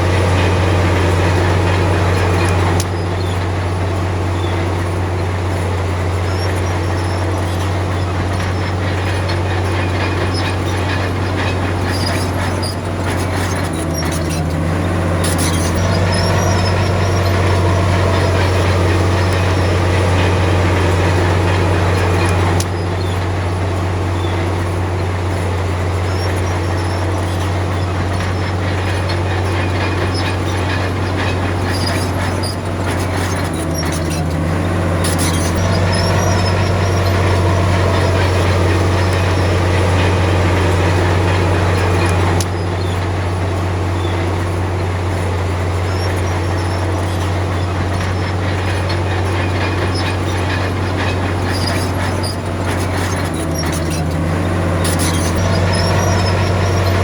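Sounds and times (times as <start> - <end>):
bulldozer diesel engine under load: 0.0 - 57.0
steel tracks clanking and squealing: 0.0 - 57.0.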